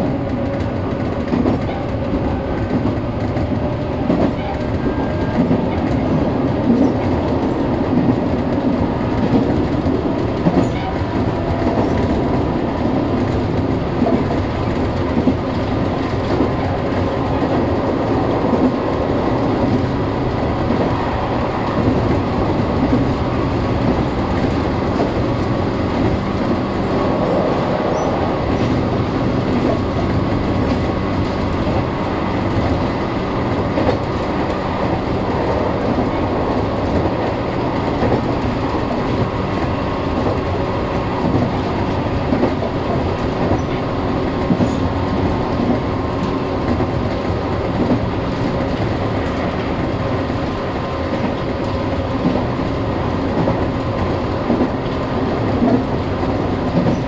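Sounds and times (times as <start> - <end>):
clacks over rail joints: 0.0 - 57.0
train wheels rumbling on rail: 0.0 - 57.0.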